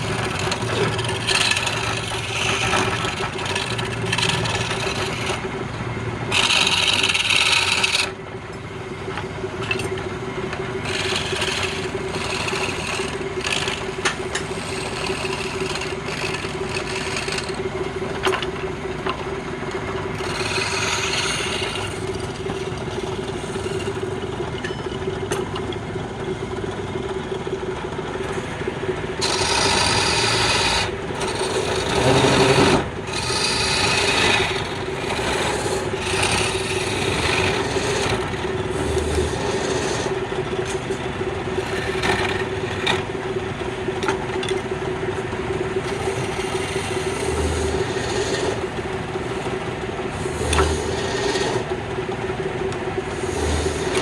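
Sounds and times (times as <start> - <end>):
tool scraping spinning wood: 0.0 - 25.7, 26.3 - 54.0
lathe motor hum: 0.0 - 54.0.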